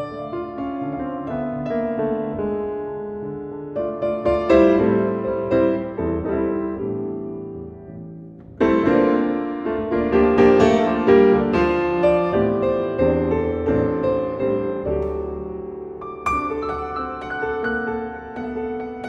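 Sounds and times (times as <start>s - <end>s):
grand piano: 0.0s - 19.0s.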